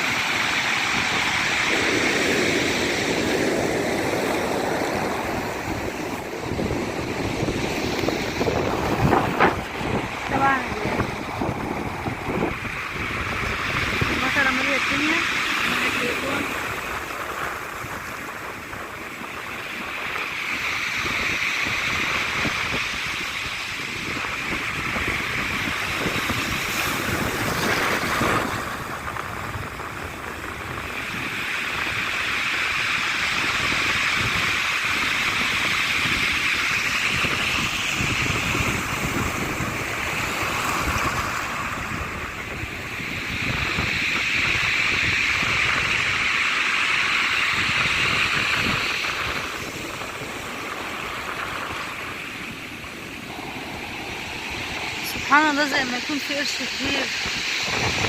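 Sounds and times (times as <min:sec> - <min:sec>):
sea surf washing onto beach: 0:00.0 - 0:58.0
wind buffeting microphone: 0:00.0 - 0:58.0.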